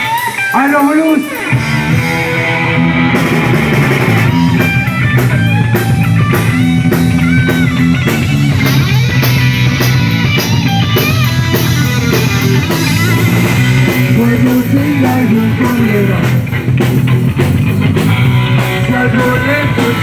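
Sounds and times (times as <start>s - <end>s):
electric guitar lead bending notes: 0.0s - 20.0s
rock band playing blues: 0.0s - 20.0s.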